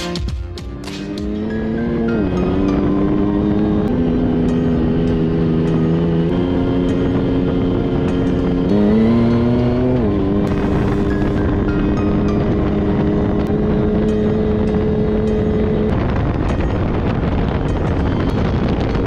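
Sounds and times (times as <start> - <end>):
engine running from inside cab: 0.7 - 19.0.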